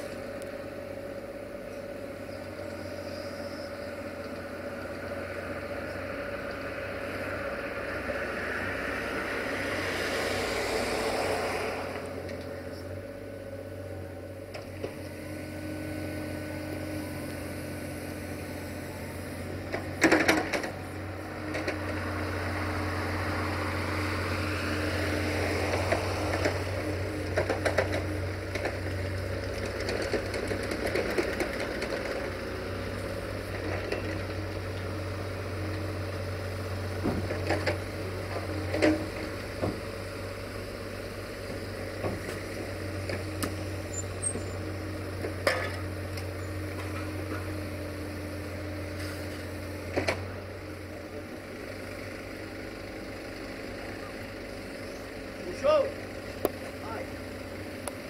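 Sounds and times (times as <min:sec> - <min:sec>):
excavator engine and hydraulics humming: 0:00.0 - 0:58.0.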